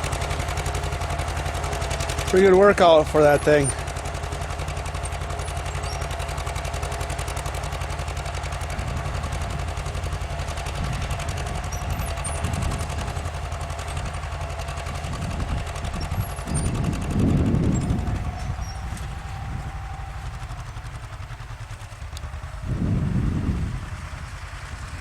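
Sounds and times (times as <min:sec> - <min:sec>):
tractor engine exhaust beat: 0:00.0 - 0:25.0.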